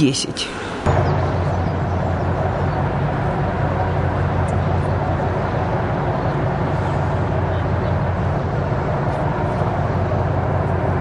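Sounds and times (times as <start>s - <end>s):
broad rushing noise: 0.0s - 11.0s
ship engine droning: 0.0s - 11.0s.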